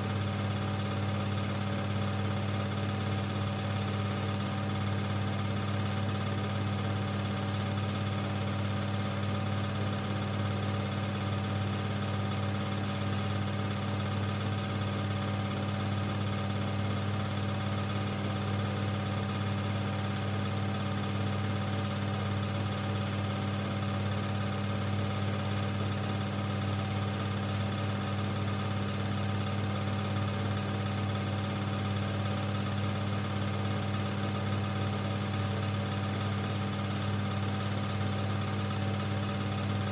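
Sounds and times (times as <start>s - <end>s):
film projector motor hum: 0.0s - 39.9s.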